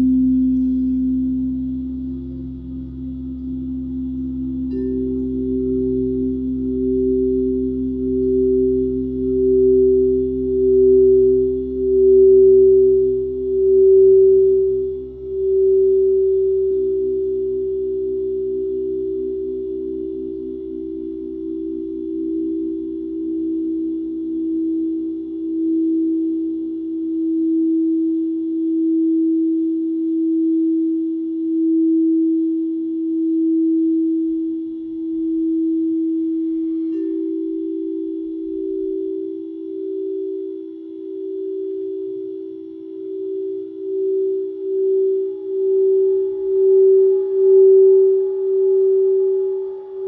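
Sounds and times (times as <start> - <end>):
singing bowls ringing: 0.0 - 50.0.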